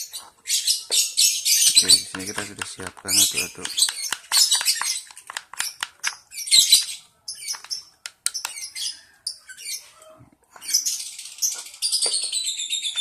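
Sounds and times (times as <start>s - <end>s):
bird chicks squawking: 0.0s - 13.0s.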